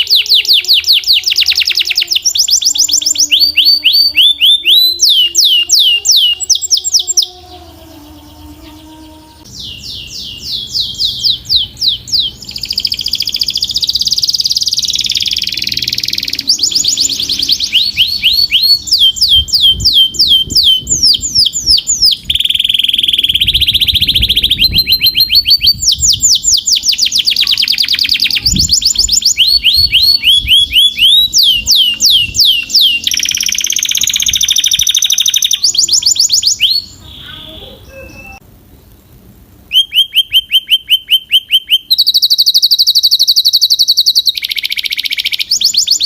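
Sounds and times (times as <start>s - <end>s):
canary singing trills: 0.0s - 38.4s, 39.7s - 46.0s.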